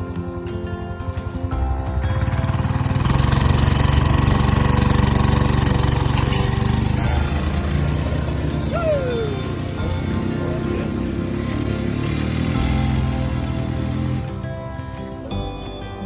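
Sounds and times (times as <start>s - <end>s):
background music: 0.0s - 16.0s
small engine running: 0.0s - 16.0s.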